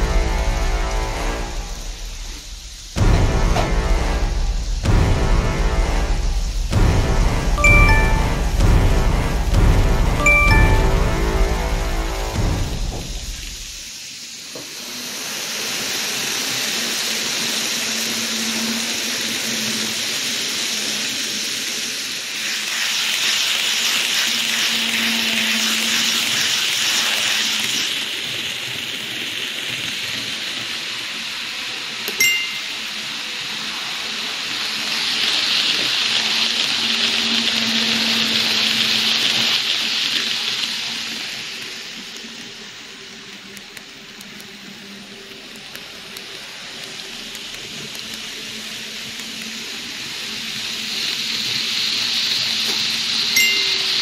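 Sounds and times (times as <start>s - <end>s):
model train wheels rolling on rails: 10.2s - 54.0s.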